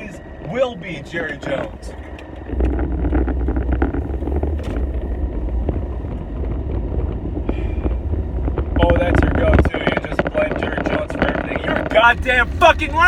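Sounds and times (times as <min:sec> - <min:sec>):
crackling vibrating rattle: 0:00.0 - 0:13.0
road rumble inside car: 0:00.0 - 0:13.0.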